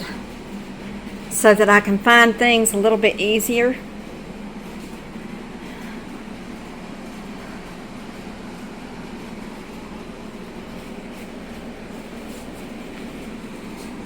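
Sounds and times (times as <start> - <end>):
household machinery humming: 0.0 - 14.0.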